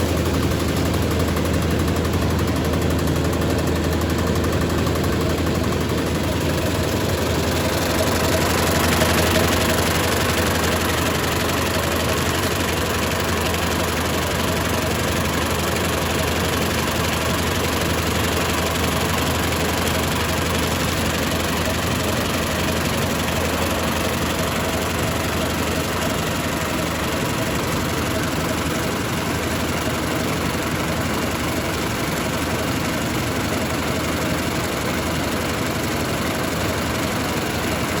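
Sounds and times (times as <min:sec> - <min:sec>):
paper bag machine running: 0:00.0 - 0:38.0.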